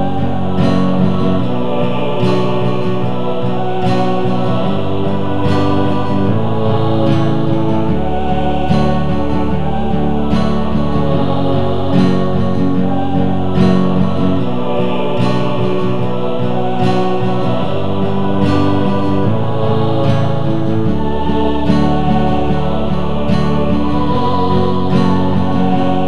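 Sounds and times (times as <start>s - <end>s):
choir voices: 0.0s - 26.0s
pop song on guitar and orchestra: 0.0s - 26.0s.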